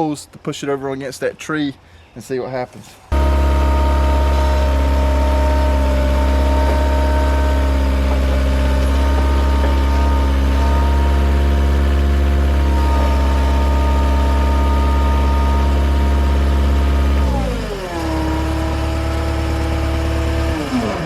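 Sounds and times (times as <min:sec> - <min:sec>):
diesel engine revving: 0:03.1 - 0:21.0.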